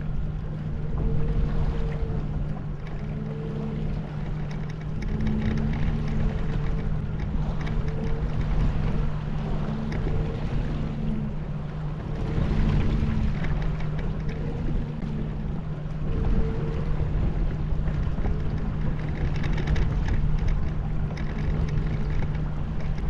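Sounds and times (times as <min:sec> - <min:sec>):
boat motor humming: 0:00.0 - 0:23.0
wind noise: 0:00.0 - 0:23.0.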